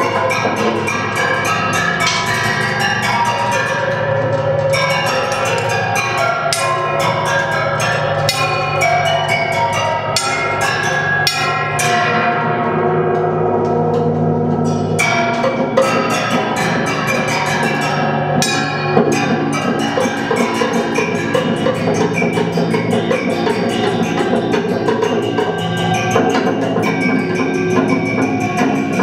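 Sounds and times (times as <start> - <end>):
rapid struck ringing notes: 0.0 - 29.0.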